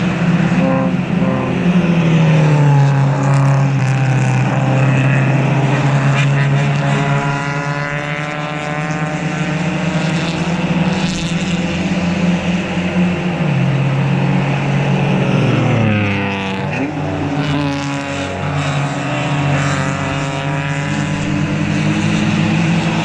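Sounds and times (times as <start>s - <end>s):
racing car engines passing: 0.0s - 23.0s.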